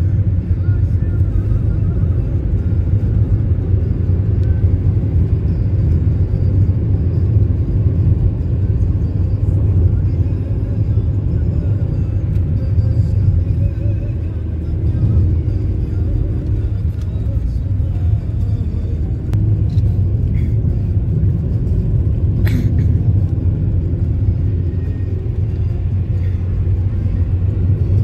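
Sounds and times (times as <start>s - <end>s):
car engine: 0.0s - 28.0s
tyre-on-road noise: 0.0s - 28.0s.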